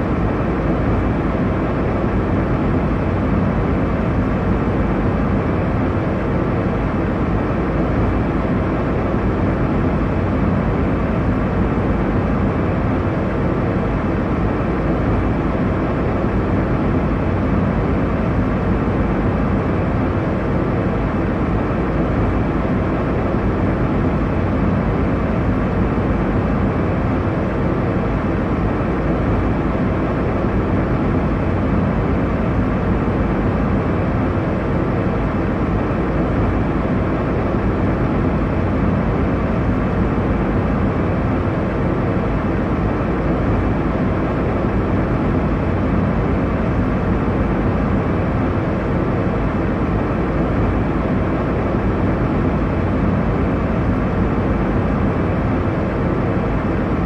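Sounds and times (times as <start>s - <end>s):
airliner cabin engine and airflow rush: 0.0s - 57.0s.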